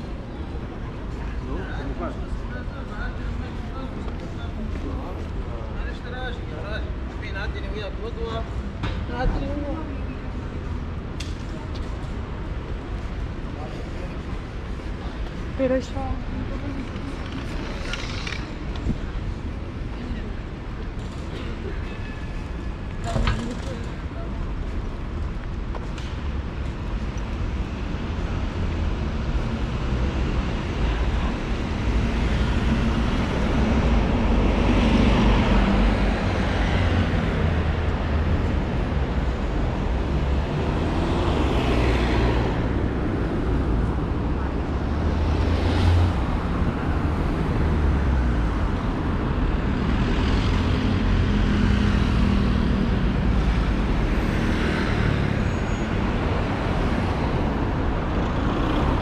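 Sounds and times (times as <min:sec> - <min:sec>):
cars and scooters passing: 0:00.0 - 0:59.0
low traffic rumble: 0:00.0 - 0:59.0.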